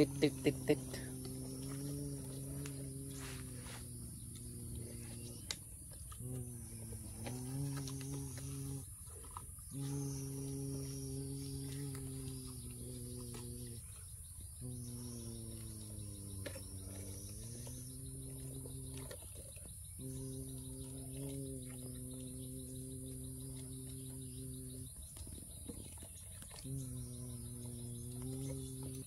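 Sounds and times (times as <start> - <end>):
person humming low drone: 0.0 - 9.0, 9.6 - 19.3, 19.9 - 25.1, 26.5 - 29.0
faint insect chirping: 0.0 - 29.0.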